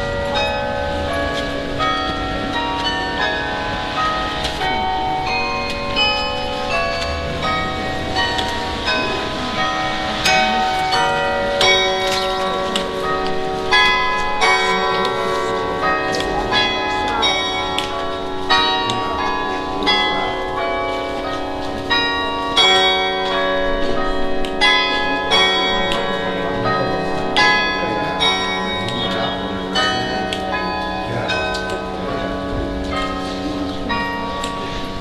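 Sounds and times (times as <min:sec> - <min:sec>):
carillon bells playing a tune: 0:00.0 - 0:35.0.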